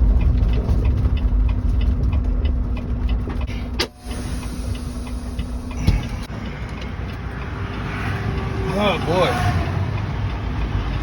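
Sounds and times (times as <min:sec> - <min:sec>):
truck engine rumble and hum: 0:00.0 - 0:11.0.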